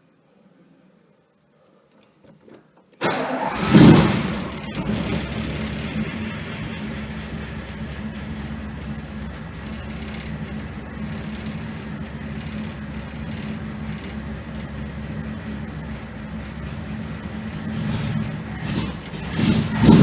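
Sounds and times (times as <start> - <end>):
car engine idling: 3.0 - 20.0.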